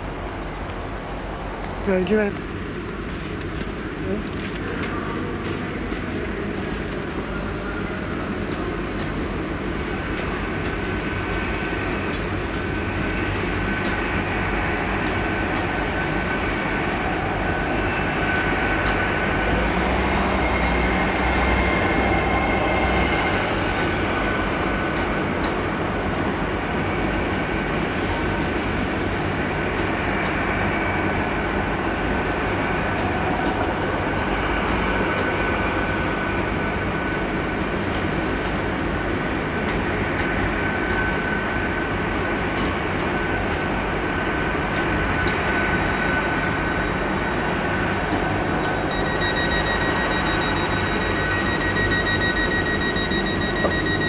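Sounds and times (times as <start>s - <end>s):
high-pitched whine: 0.0s - 2.4s, 7.2s - 37.8s, 43.2s - 54.0s
train passing: 0.0s - 54.0s.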